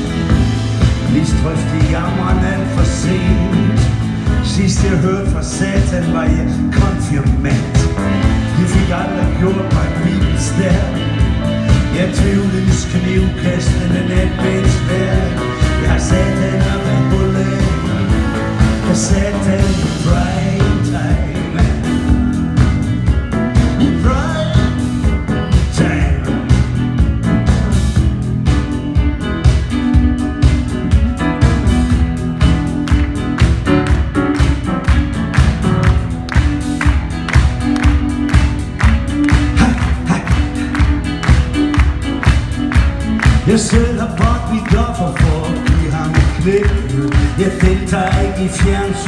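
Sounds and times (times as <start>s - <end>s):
live rock band playing: 0.0s - 49.0s.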